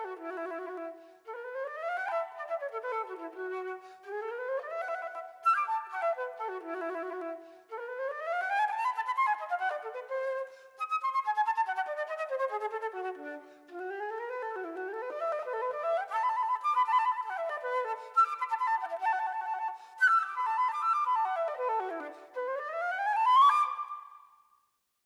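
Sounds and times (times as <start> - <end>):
flute-like wind instrument melody: 0.0 - 24.4.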